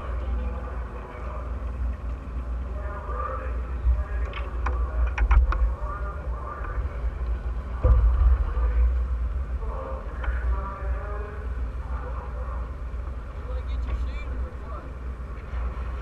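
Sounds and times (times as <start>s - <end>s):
low rumble: 0.0s - 16.0s
muffled voices: 0.0s - 16.0s.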